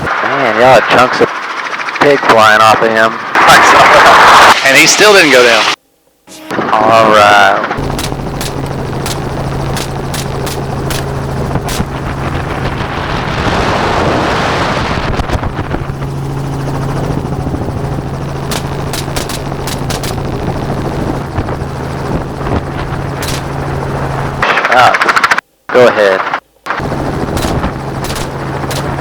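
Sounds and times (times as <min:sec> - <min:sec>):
helicopter in flight: 0:00.0 - 0:04.1, 0:06.3 - 0:25.4, 0:26.7 - 0:29.0.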